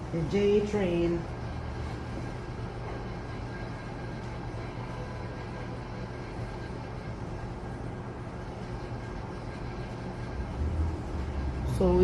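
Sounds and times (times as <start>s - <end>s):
city traffic rumble through window: 0.0s - 12.0s.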